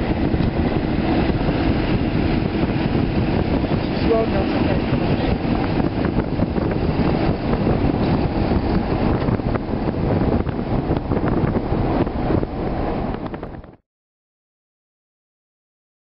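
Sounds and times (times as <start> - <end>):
car road noise: 0.0 - 13.8
wind gusting on microphone: 0.0 - 13.8.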